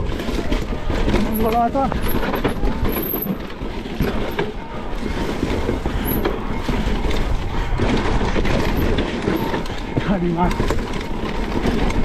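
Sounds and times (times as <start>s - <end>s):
bike frame and chain rattling: 0.0s - 12.0s
bike tyres on dirt and rock: 0.0s - 12.0s.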